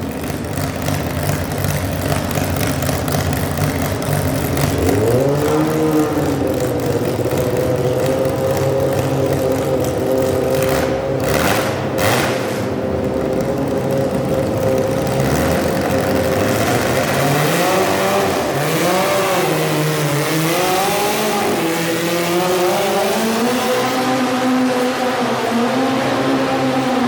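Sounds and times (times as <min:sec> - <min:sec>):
tractor engine revving: 0:00.0 - 0:27.0.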